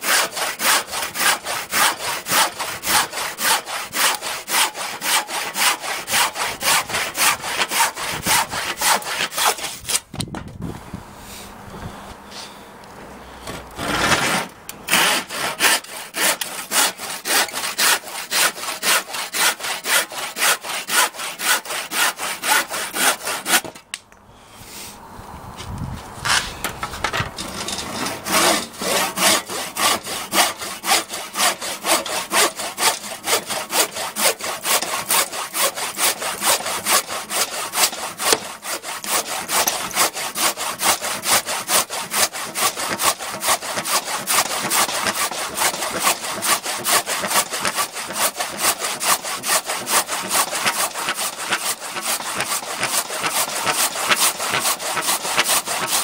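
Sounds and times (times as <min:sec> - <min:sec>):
hand saw cutting wet wood: 0:00.0 - 0:10.1, 0:13.8 - 0:23.9, 0:27.4 - 0:56.0.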